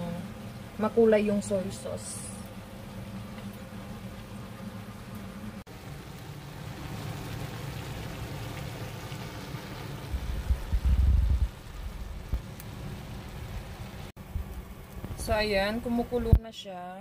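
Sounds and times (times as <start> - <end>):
pot simmering and bubbling: 0.0 - 16.3.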